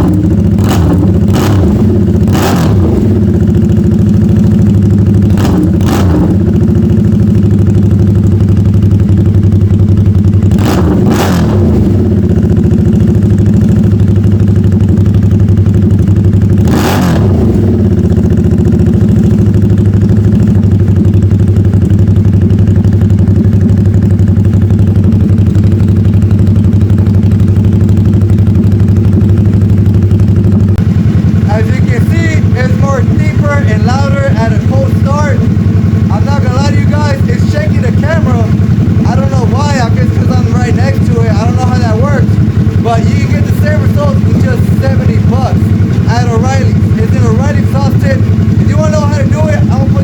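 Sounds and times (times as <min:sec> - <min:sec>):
motorcycle engine idling: 0:00.0 - 0:50.0.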